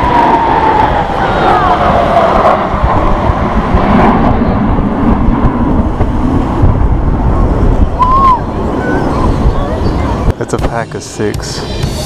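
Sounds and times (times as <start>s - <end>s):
jets flying overhead: 0.0s - 12.0s.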